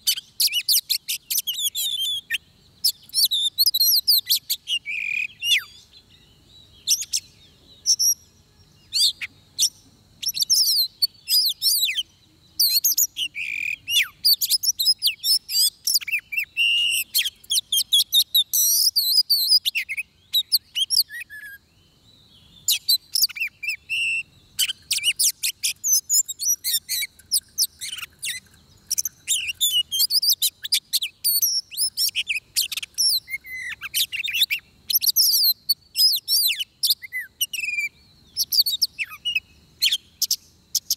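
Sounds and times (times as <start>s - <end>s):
bird singing whistles and chirps: 0.0s - 40.9s.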